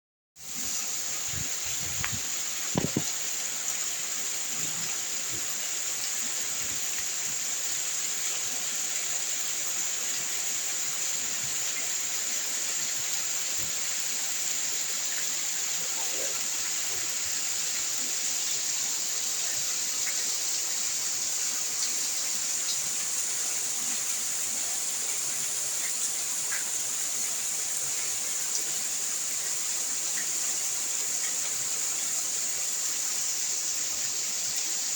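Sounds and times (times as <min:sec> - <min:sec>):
steady rain: 0:00.4 - 0:34.9.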